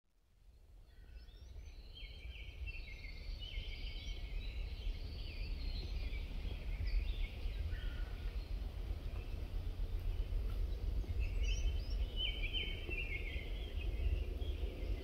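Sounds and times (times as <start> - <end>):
birds chirping and singing: 0.9 - 15.0
steady low rumble: 1.4 - 15.0.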